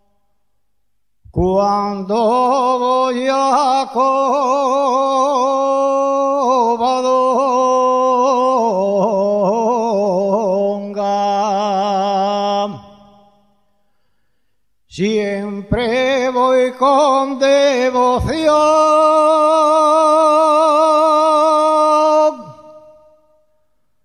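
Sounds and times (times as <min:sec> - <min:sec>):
solo voice singing long notes: 0:01.3 - 0:13.6, 0:14.9 - 0:23.6.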